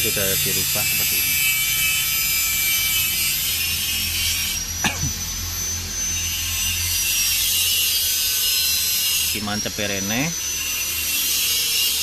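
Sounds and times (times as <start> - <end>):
whining machine motor: 0.0 - 12.0.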